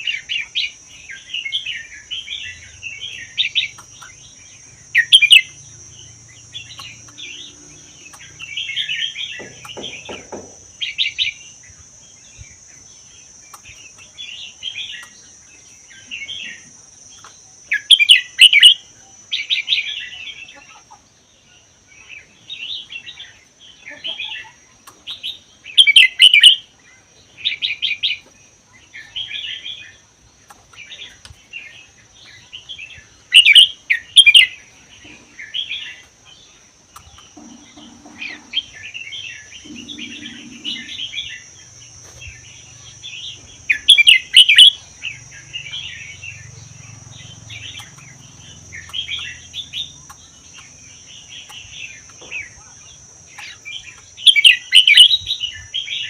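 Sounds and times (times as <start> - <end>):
bulbul chattering song: 0.0 - 56.0.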